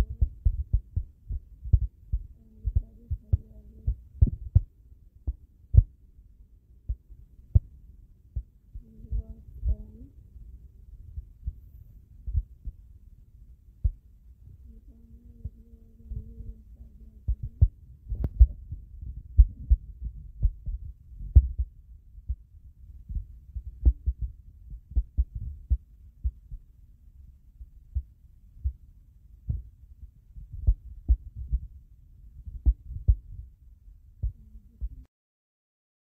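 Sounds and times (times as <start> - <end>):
dull low thumps: 0.0 - 6.0, 6.9 - 7.8, 8.4 - 10.1, 10.8 - 13.0, 13.8 - 26.8, 27.6 - 35.1
faint low hum: 0.0 - 35.1.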